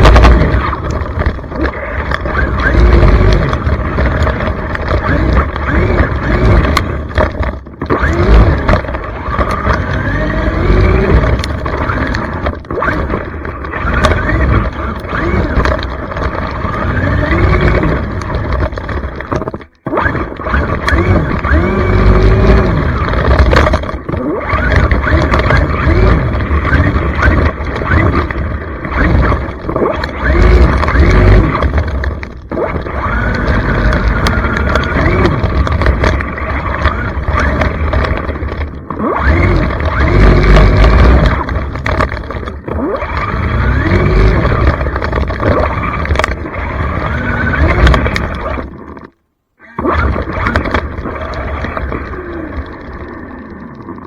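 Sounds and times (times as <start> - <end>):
toy truck electric motor whining: 0.0 - 54.0.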